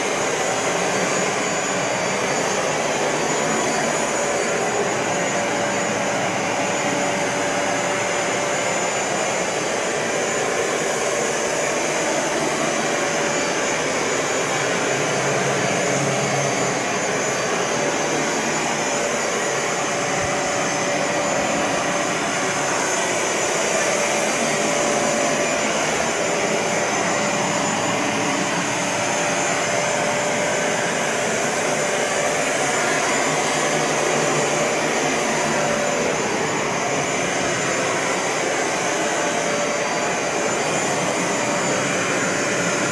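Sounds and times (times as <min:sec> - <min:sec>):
carpet cleaner running: 0:00.0 - 0:42.9.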